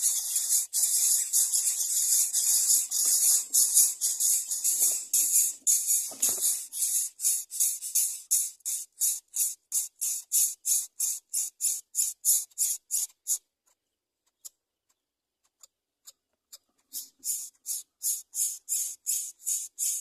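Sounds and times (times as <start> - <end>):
nestlings rasping begging calls: 0.0 - 13.4, 17.0 - 20.0.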